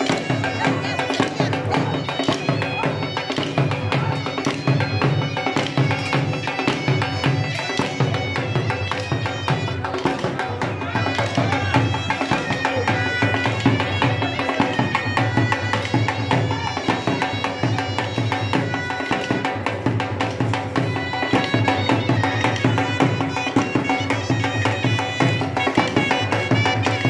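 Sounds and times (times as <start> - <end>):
dhol drum beating: 0.0 - 27.0
reed wind instrument melody: 0.0 - 27.0.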